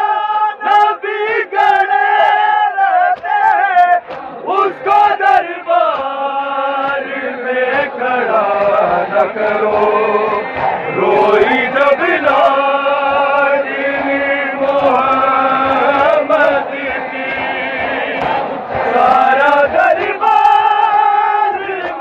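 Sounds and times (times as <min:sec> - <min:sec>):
men chanting lament: 0:00.0 - 0:22.0
sharp slaps: 0:01.6 - 0:22.0.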